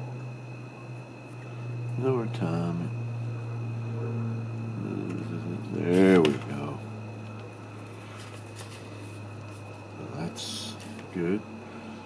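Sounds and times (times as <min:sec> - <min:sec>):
faint high whine: 0:00.0 - 0:12.0
low electrical hum: 0:00.0 - 0:12.0.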